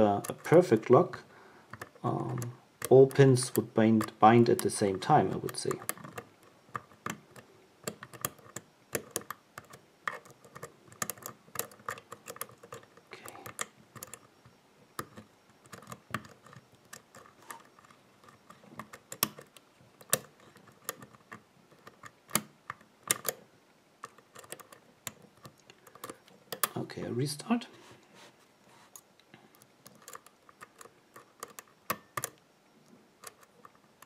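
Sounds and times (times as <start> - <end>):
lock pick clicking and scraping: 1.7 - 23.4, 24.0 - 26.8, 28.9 - 32.4, 33.2 - 34.0.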